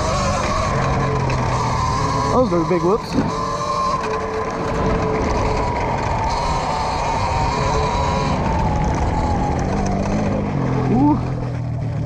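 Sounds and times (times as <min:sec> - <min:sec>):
electric motor whining: 0:00.0 - 0:12.0
tyres on dirt: 0:00.0 - 0:12.0
wind rumble: 0:00.0 - 0:12.0.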